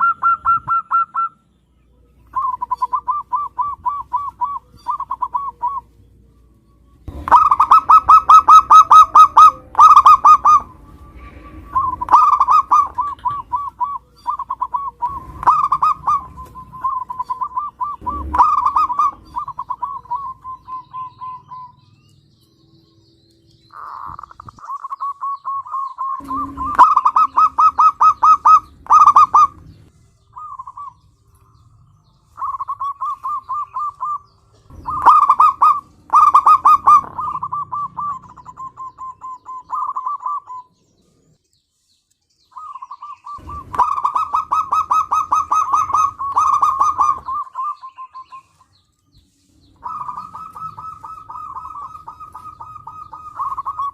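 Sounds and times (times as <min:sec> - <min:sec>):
dove cooing: 0:00.0 - 0:01.4, 0:02.0 - 0:22.0, 0:23.6 - 0:40.8, 0:42.5 - 0:48.8, 0:49.6 - 0:53.9.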